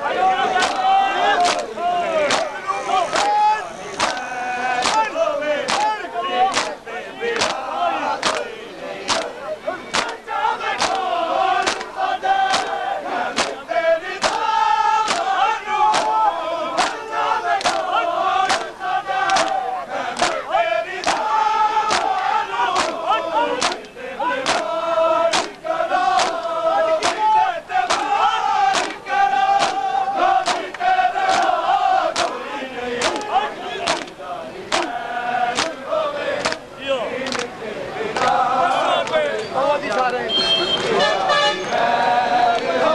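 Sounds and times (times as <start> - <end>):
men chanting a lament: 0.0 - 42.9
men slapping chests in unison: 0.4 - 38.4, 39.0 - 40.2.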